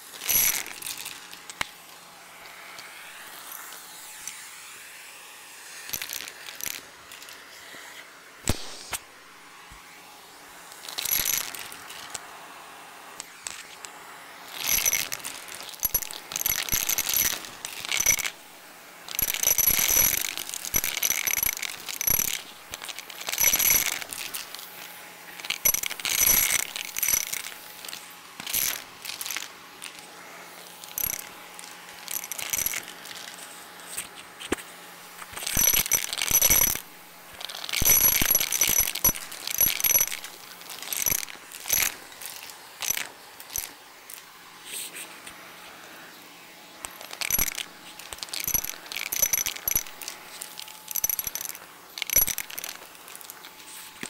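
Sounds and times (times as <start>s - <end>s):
coins rattling in vacuum nozzle: 0.0s - 1.9s, 5.8s - 7.8s, 10.7s - 12.2s, 13.2s - 44.8s, 46.8s - 54.0s.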